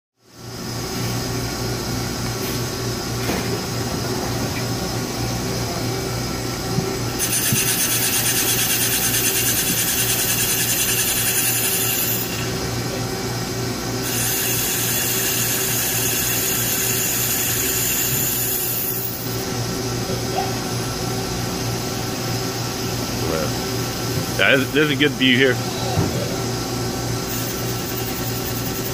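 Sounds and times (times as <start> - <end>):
high hissing whine: 4.8 - 28.9.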